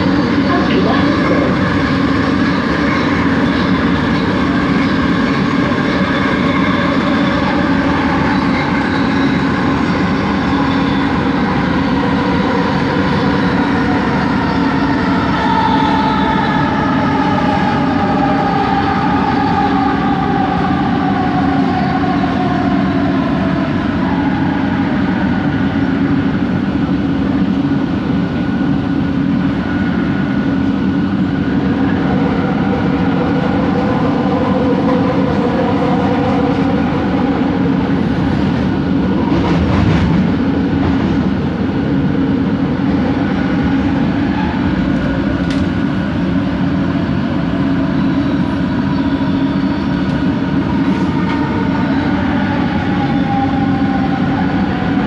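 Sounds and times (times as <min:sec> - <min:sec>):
train rumbling over track: 0:00.0 - 0:55.0.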